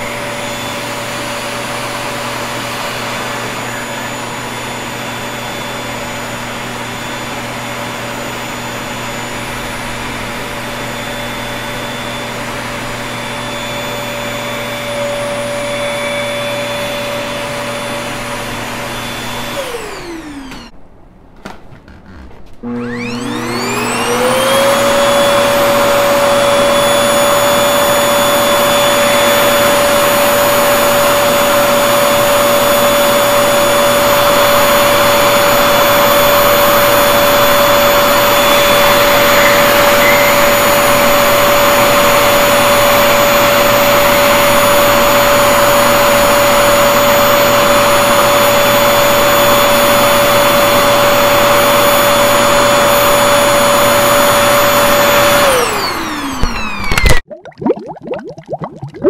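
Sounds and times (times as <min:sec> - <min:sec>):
stick vacuum cleaner whining: 0:00.0 - 0:20.8, 0:21.4 - 0:57.3.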